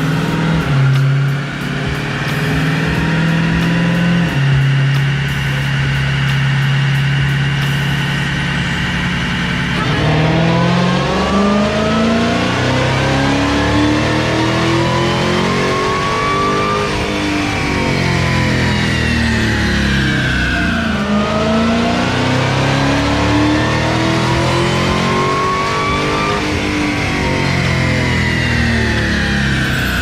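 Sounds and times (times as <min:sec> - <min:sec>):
car engine revving on dyno: 0:00.0 - 0:30.0.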